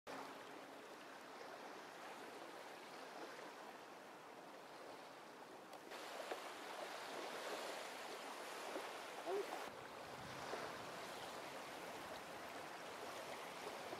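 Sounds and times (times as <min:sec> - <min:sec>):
water lapping: 0:00.1 - 0:13.9.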